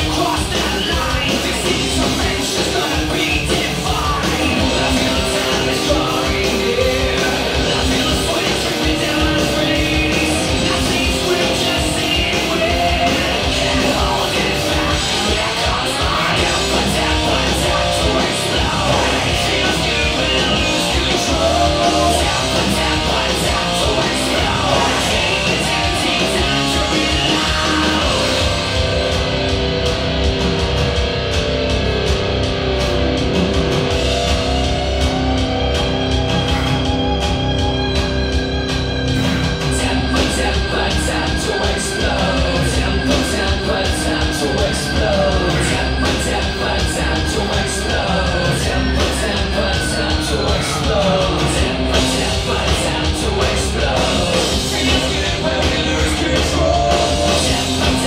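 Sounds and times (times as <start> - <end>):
rock music with guitar: 0.0 - 58.0.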